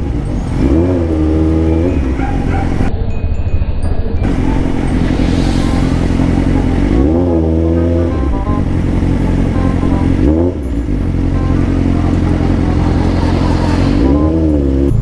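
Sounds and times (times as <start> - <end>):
motorcycle engine revving: 0.0 - 3.0, 4.2 - 15.0.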